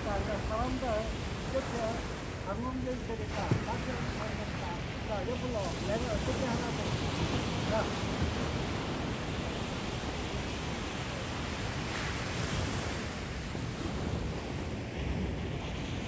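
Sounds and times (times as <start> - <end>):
waves breaking on beach: 0.0 - 16.0
wind on microphone: 0.0 - 16.0.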